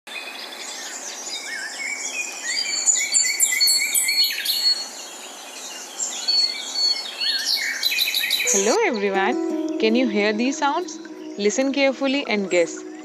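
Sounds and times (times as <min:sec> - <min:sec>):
birds chirping and whistling: 0:00.6 - 0:13.0.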